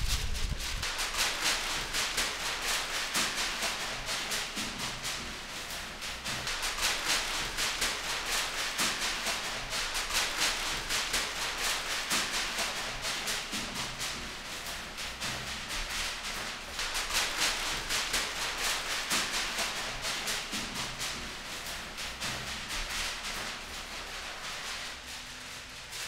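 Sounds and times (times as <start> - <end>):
fast hissing shaker rhythm: 0.0 - 26.0.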